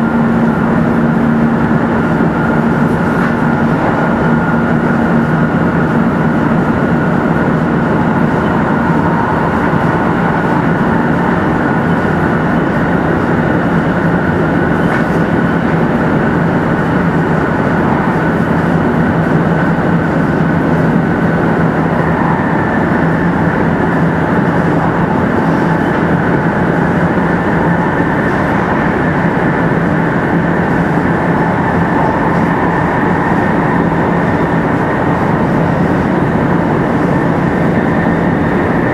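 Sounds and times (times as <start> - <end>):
faint steady tones: 0.0 - 38.9
train wheels and air rumble: 0.0 - 38.9.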